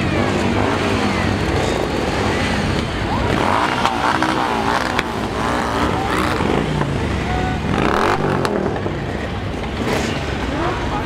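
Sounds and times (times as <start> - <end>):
motorcycles riding past: 0.0 - 11.0.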